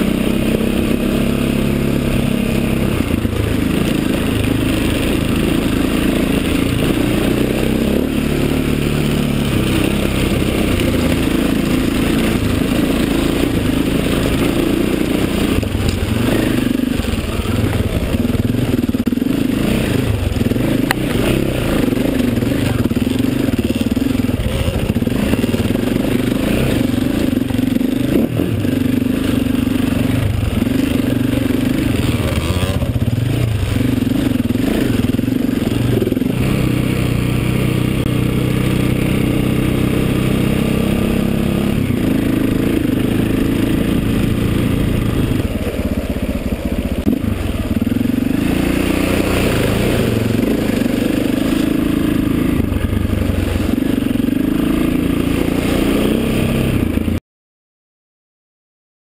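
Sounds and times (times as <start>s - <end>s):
dirt bike engine revving: 0.0s - 57.2s.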